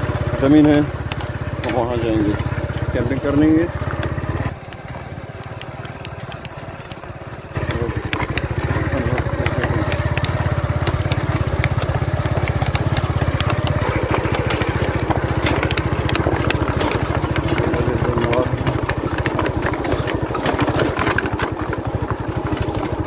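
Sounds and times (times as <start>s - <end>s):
clicks and rattles: 0.0s - 23.0s
motorcycle engine running: 0.0s - 23.0s.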